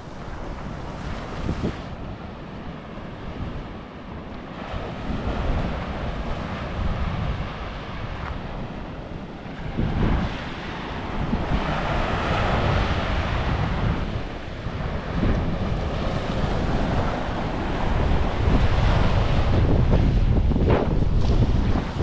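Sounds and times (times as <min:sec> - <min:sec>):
surf breaking on a beach: 0:00.0 - 0:22.0
wind buffeting microphone: 0:00.0 - 0:22.0.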